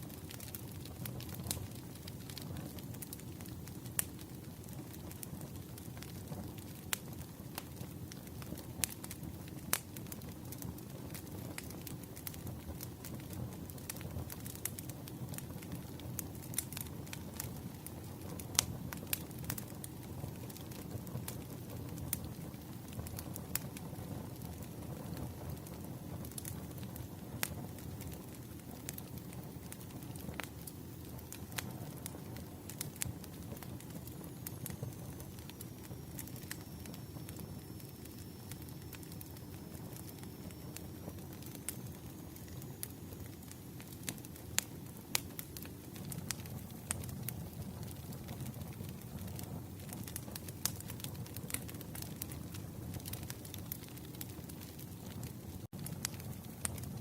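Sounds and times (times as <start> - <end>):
fire rumbling: 0.0 - 57.0
firewood popping: 0.1 - 56.9.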